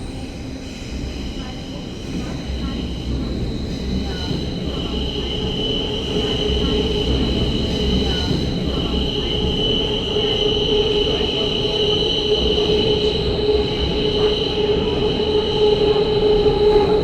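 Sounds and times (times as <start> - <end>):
train low rumble: 0.0 - 17.0
train wheels squealing on rails: 0.0 - 17.0.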